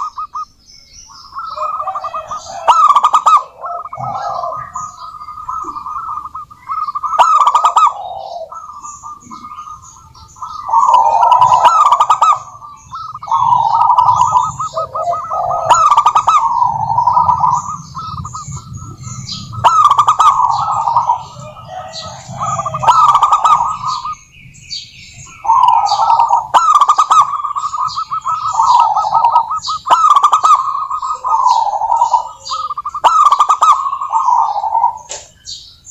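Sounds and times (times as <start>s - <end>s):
doves cooing: 0.0s - 35.9s
high bird chirps: 0.0s - 35.9s.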